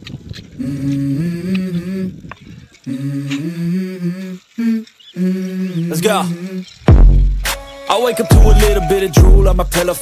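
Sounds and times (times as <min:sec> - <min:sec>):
wordless hummed vocal melody: 0:00.5 - 0:10.0.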